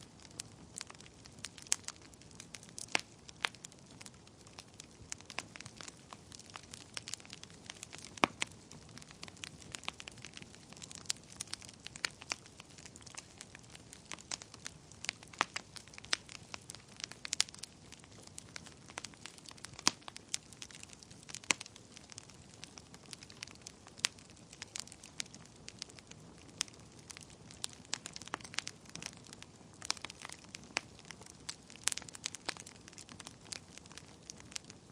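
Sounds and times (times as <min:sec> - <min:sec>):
low steady fire hiss: 0:00.0 - 0:34.9
wood fire crackling and popping: 0:00.0 - 0:34.9.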